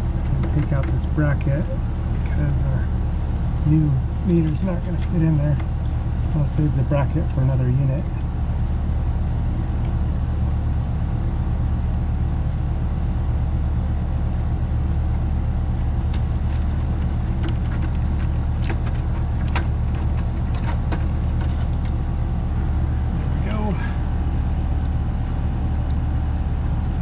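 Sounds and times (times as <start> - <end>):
air conditioner humming: 0.0 - 27.0.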